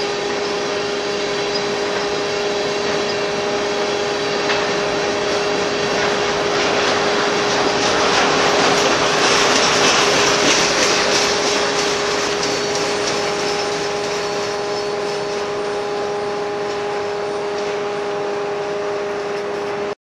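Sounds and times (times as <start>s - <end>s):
steady multi-pitch hum: 0.0s - 20.0s
train wheels rushing on rails: 0.0s - 20.0s.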